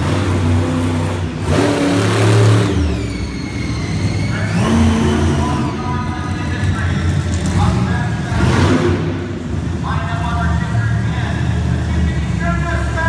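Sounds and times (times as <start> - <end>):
high engine whine: 0.0 - 13.0
truck engine revving: 0.0 - 13.0.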